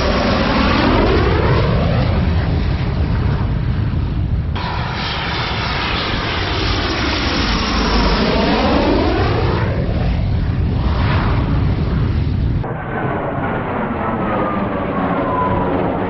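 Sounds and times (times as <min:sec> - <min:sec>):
jet passing low overhead: 0:00.0 - 0:16.0.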